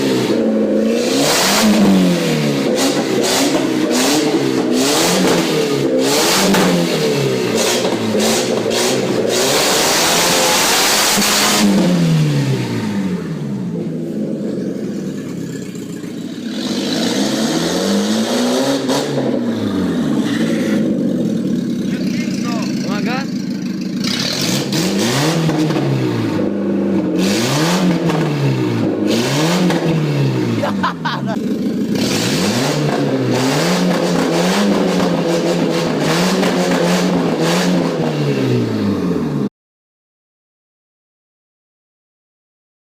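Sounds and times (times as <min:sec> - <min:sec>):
car engine revving: 0:00.0 - 0:39.5.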